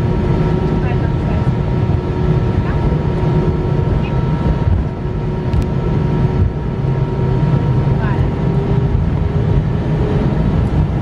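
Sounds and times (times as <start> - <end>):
airplane cabin engine rumble: 0.0 - 11.0
faint constant whining tones: 0.0 - 11.0.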